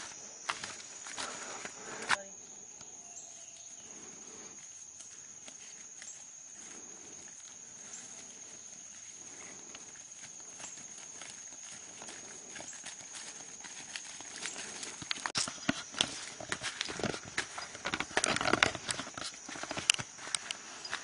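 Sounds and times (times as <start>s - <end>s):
rustling through brush: 3.3s - 21.0s.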